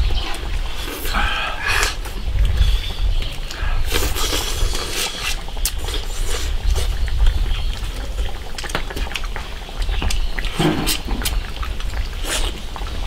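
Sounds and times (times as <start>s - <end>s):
slurping and chewing: 0.1s - 13.0s.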